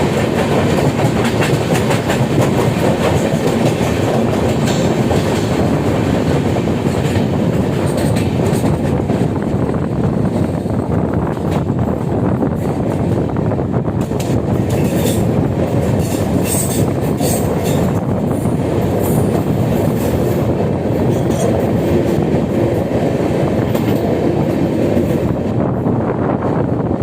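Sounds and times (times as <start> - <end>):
rail clatter clicks: 0.0 - 26.8
train wheels rumbling on rail: 0.0 - 27.0.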